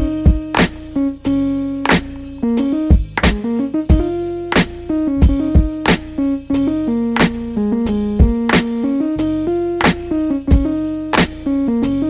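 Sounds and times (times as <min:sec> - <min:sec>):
drum beat with kick and snare: 0:00.0 - 0:08.9, 0:09.8 - 0:12.0
plucked guitar notes: 0:00.0 - 0:11.8.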